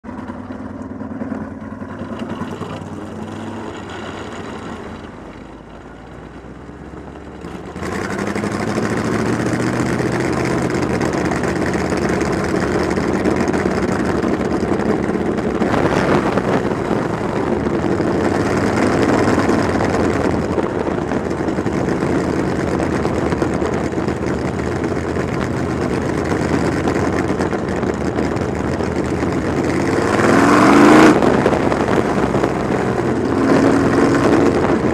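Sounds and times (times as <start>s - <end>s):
race car engine running: 0.0s - 34.9s.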